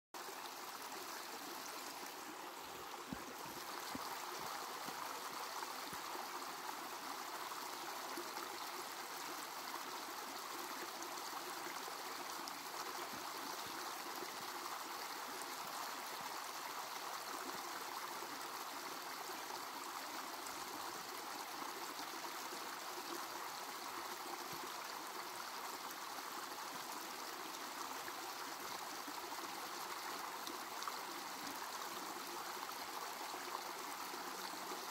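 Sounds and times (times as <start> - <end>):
creek water rushing over stones: 0.2 - 34.9.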